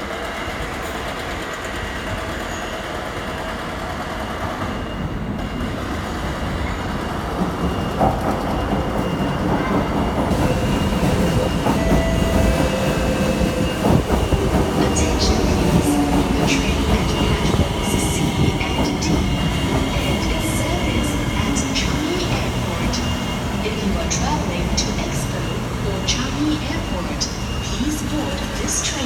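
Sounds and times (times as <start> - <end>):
metro train rumble: 0.0 - 29.0.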